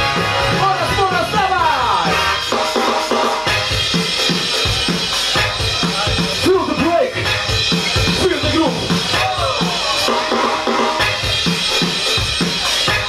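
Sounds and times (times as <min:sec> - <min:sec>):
hip-hop breakbeat music: 0:00.0 - 0:13.0.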